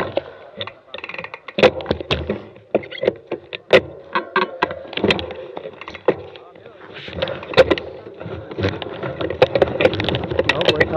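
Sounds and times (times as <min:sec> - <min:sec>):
mountain bike clattering: 0:00.0 - 0:10.9.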